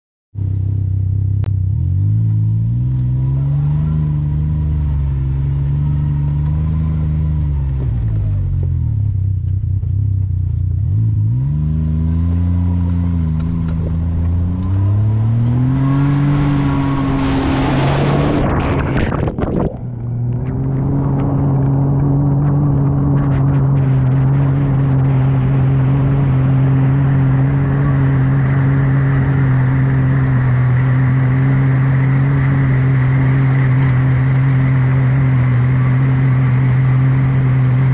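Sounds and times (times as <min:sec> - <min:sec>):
engine revving: 0:01.4 - 0:09.2, 0:10.8 - 0:37.9.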